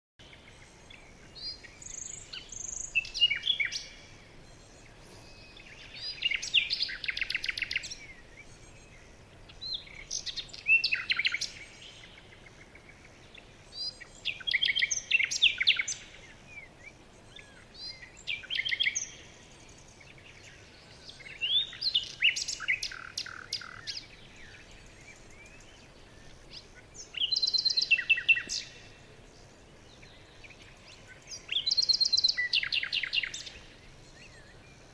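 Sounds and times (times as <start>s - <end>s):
faint background hiss: 0.2s - 34.9s
songbirds trilling and chirping: 0.2s - 34.9s.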